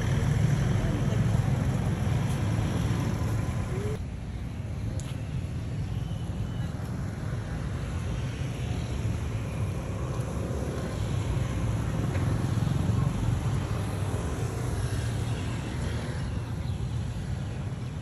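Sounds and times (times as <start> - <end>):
street background rumble: 0.0 - 18.0.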